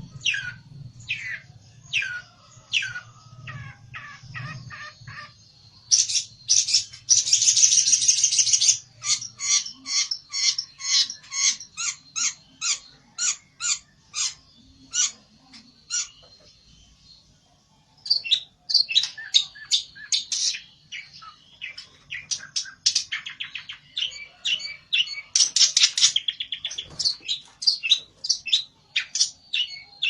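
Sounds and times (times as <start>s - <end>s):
songbird sharp calls and buzzing rattle: 0.2s - 17.2s, 18.0s - 30.0s.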